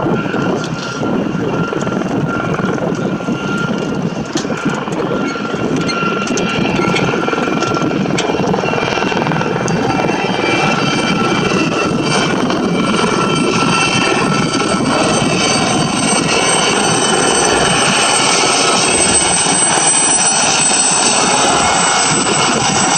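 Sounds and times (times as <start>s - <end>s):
helicopter flying low past: 0.0s - 22.9s
high whine: 0.0s - 22.9s.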